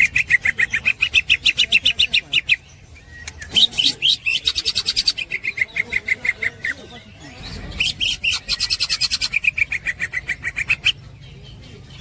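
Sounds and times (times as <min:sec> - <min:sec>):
bird chattering call: 0:00.0 - 0:11.2.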